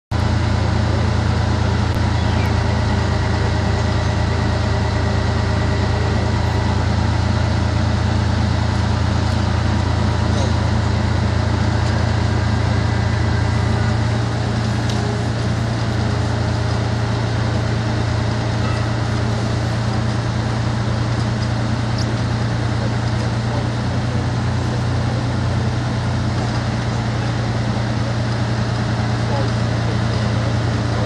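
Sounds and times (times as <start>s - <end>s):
heavy machinery droning: 0.1s - 31.0s.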